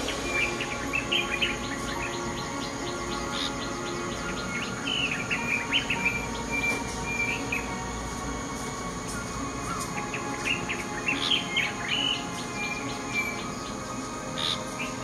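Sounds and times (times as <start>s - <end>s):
bulbuls chirping: 0.0s - 15.0s.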